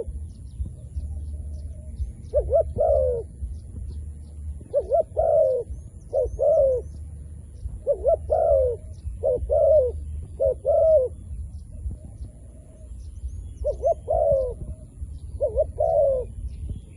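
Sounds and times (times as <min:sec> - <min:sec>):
dove cooing: 0:00.0 - 0:16.5
small birds chirping: 0:00.0 - 0:16.9.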